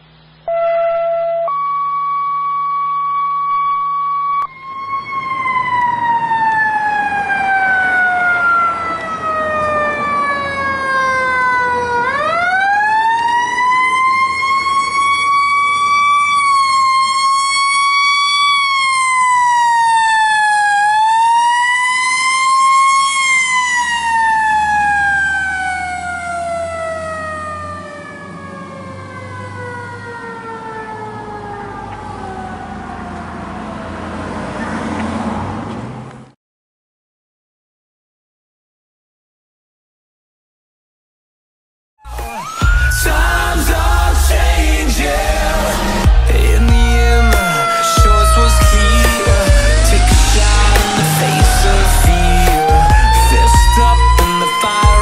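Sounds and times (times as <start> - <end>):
mechanical siren wailing: 0.4 - 34.9, 42.0 - 55.0
fire truck engine: 4.4 - 36.4, 42.1 - 55.0.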